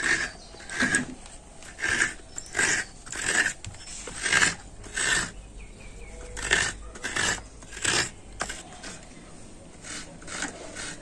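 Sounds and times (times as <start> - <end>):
coconut scraping on grater: 0.0 - 5.5, 6.2 - 9.1, 9.7 - 11.0.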